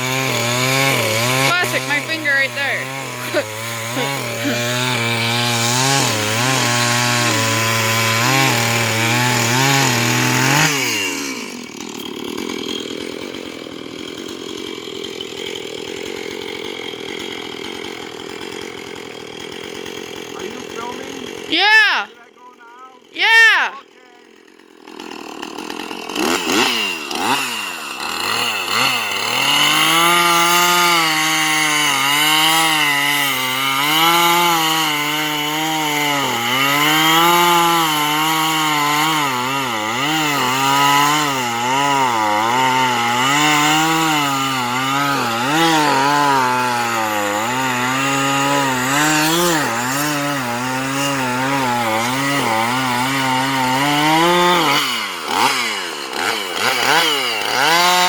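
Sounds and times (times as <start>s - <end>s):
chainsaw cutting into a tree: 0.0s - 58.0s.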